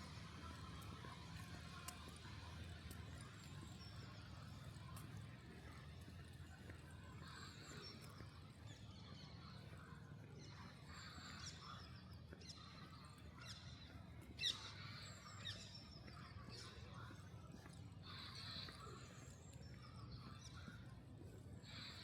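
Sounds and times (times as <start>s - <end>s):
faint low city hum: 0.0s - 22.0s
small birds chirping: 0.0s - 22.0s.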